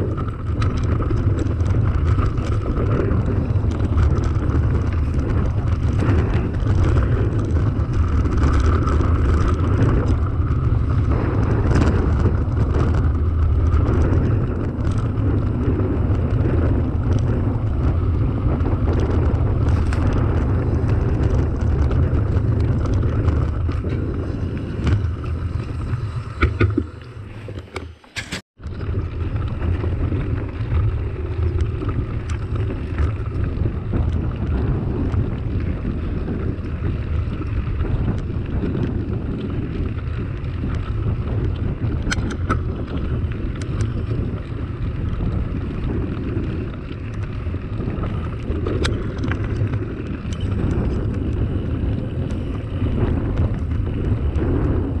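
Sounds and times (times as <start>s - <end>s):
small clicks and rattles: 0.0s - 55.0s
tyres rolling over dirt: 0.0s - 55.0s
wind rumbling on microphone: 0.0s - 55.0s.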